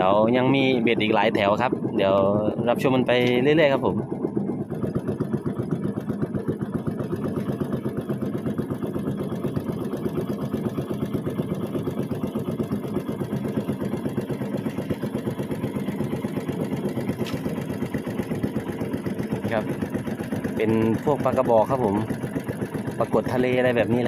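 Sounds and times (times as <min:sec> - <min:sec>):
boat engine chugging: 0:00.0 - 0:24.0.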